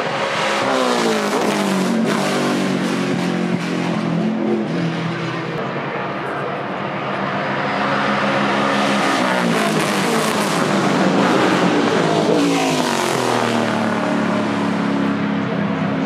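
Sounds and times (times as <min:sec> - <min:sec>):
race car passing by: 0:00.0 - 0:16.0
steady race car engine: 0:00.0 - 0:16.0.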